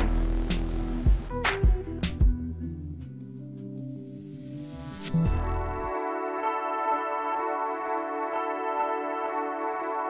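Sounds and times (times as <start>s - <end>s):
ambient instrumental music: 0.0s - 10.0s.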